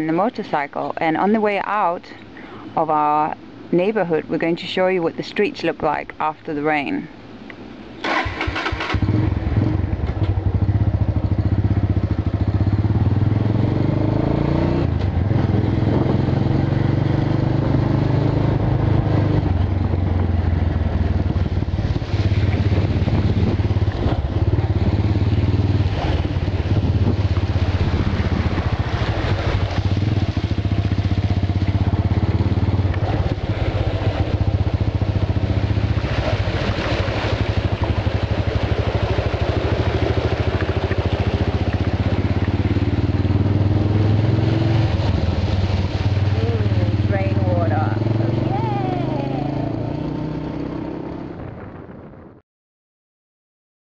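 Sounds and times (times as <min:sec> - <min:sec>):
motorbike engine running: 0:08.1 - 0:51.3.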